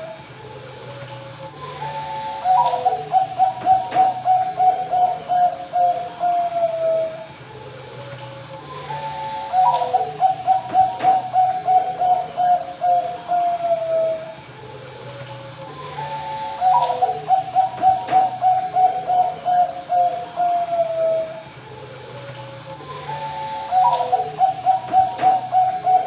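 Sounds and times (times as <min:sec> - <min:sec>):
dove cooing: 0:00.8 - 0:21.5, 0:22.1 - 0:26.0.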